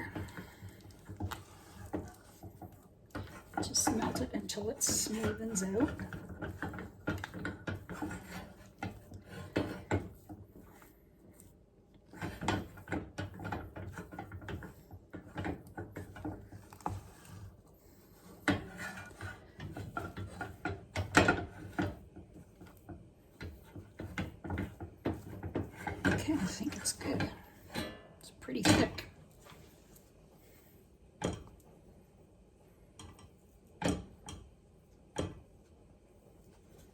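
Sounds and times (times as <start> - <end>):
spatula scraping a pot: 0.0 - 32.0.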